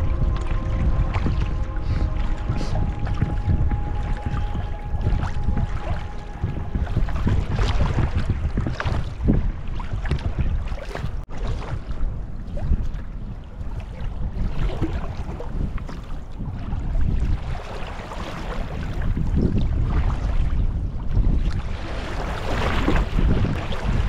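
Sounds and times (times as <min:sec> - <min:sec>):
water splashing around kayak: 0:00.0 - 0:24.0
wind buffeting microphone: 0:00.0 - 0:24.0.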